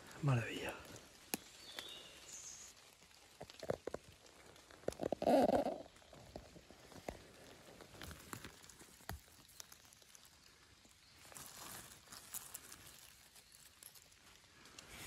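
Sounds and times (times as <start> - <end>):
dry leaves and twigs rustling: 0.0 - 15.0.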